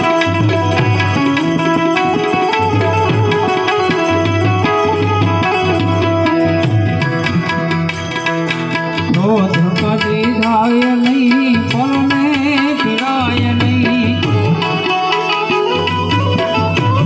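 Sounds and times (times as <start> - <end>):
harmonium notes: 0.0 - 17.0
tabla rhythm: 0.0 - 17.0
wavering melody line: 0.0 - 17.0.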